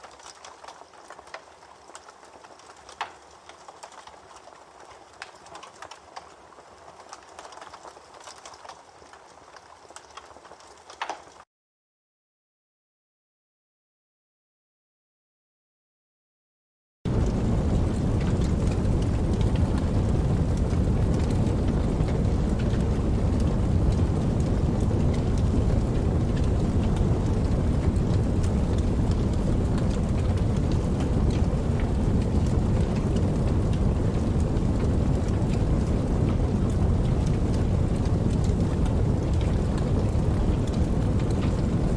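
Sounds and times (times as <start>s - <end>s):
campfire crackling and popping: 0.0s - 11.4s, 17.1s - 41.9s.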